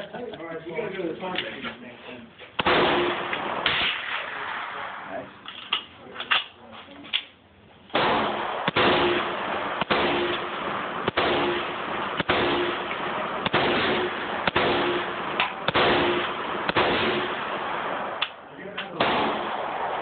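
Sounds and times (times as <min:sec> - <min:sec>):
rifle shots distorted: 0:02.6 - 0:06.6, 0:07.9 - 0:20.0.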